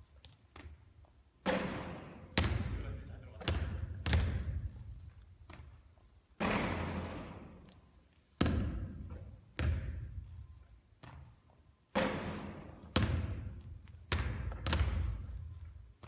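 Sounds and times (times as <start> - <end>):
basketball bouncing with echo: 0.1 - 7.8, 8.4 - 10.4, 11.0 - 16.0.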